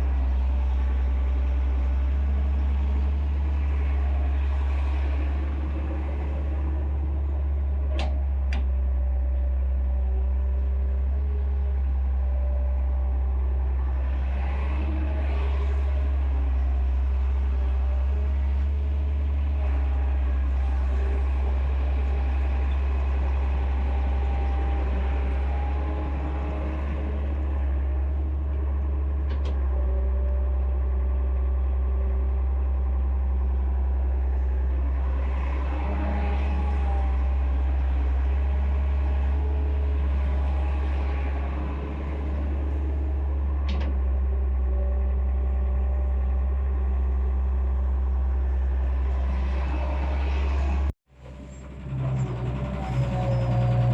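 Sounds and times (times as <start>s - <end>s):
excavator engine droning: 0.0s - 53.9s.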